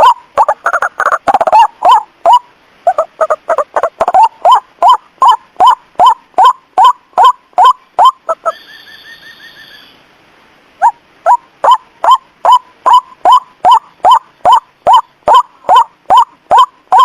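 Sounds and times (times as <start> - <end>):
hoarse bird calls: 0.0 - 10.0, 10.8 - 17.0.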